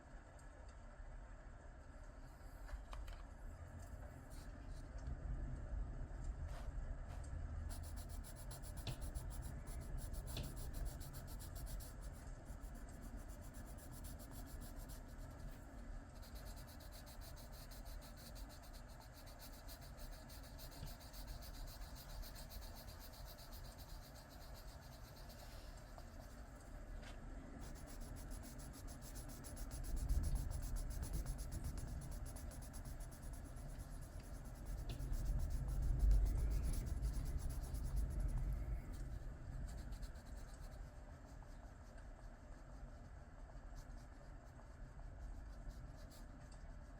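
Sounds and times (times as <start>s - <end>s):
pencil scratching on paper: 7.7s - 26.4s, 27.6s - 46.9s.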